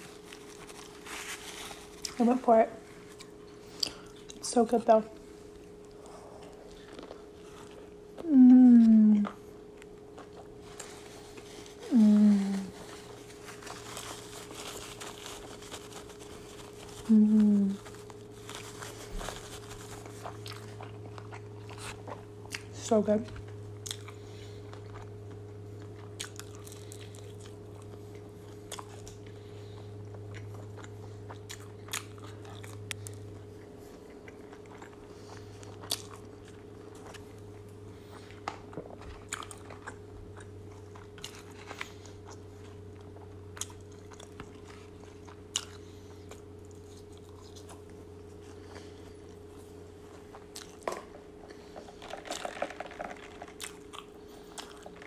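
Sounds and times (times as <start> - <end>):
chewing crunches: 0.0 - 2.3, 2.9 - 4.5, 5.2 - 8.3, 9.2 - 12.0, 12.6 - 55.0
steady low hum: 0.0 - 55.0.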